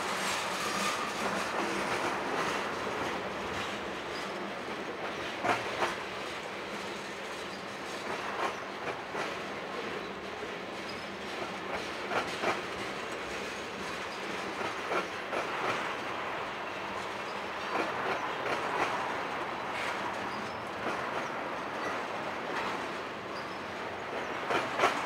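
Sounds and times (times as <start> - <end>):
train cars rumbling past: 0.0 - 25.0
wheels clacking over rail joints: 0.0 - 25.0.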